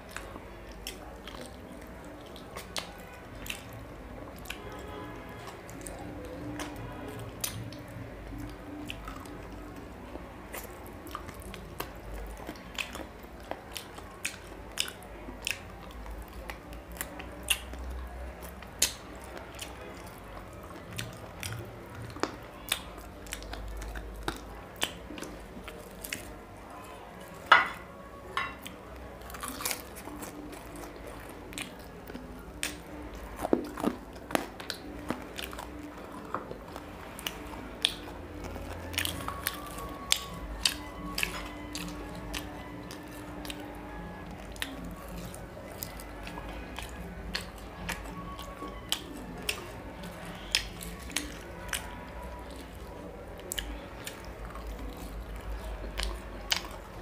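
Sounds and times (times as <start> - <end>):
close-up chewing: 0.0 - 57.0.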